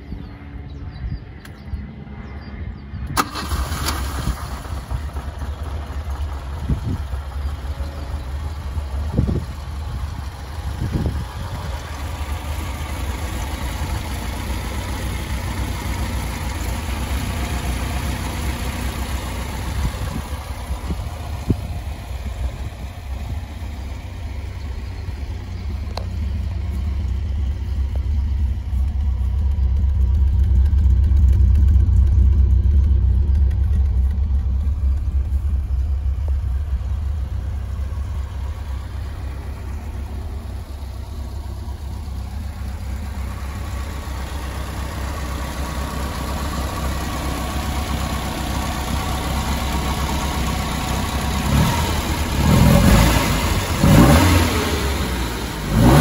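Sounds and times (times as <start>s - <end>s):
car engine starting and revving: 3.0s - 7.6s, 8.8s - 56.0s.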